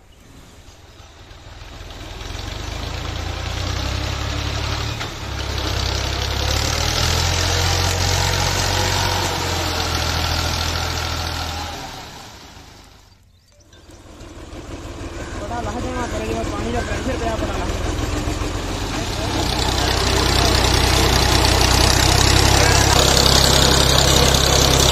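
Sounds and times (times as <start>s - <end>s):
tractor engine running under load: 0.8s - 24.9s.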